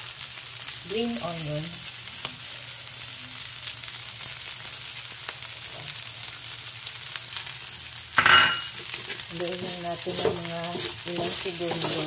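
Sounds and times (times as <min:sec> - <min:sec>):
rice sizzling in a wok: 0:00.0 - 0:12.0.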